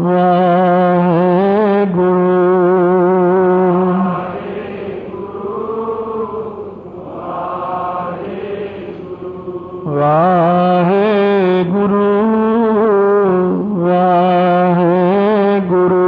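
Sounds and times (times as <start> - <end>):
devotional chanting: 0.0 - 16.0.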